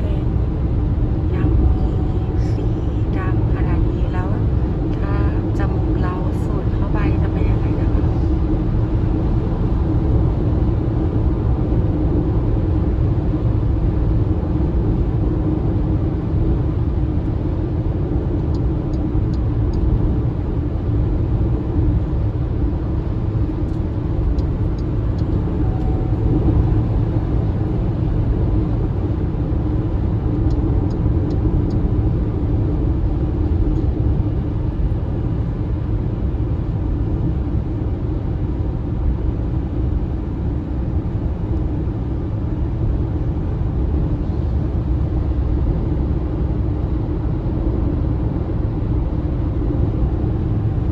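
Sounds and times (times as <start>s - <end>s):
low vehicle rumble: 0.0s - 50.9s
road and tyre noise: 0.0s - 50.9s.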